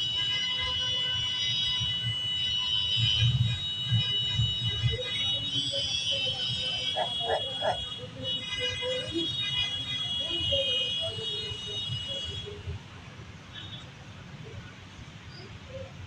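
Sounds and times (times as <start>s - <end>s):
faint voices: 1.7s - 16.0s.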